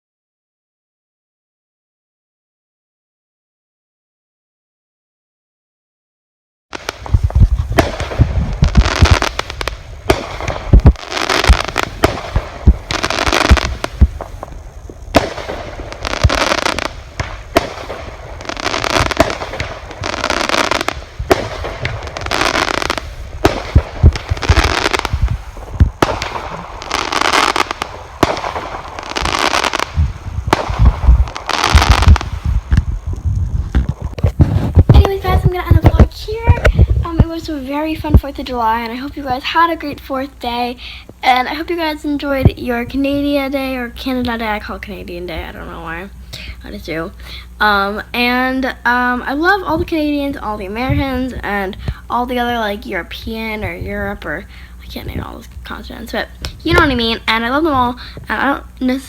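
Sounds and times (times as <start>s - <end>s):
fireworks crackling and popping: 6.7s - 59.0s
low rumbling: 6.8s - 59.0s.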